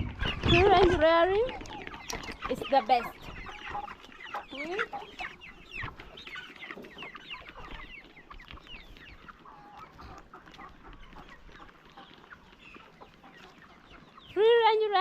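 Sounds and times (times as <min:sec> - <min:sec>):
chickens clucking and peeping: 0:00.0 - 0:15.0.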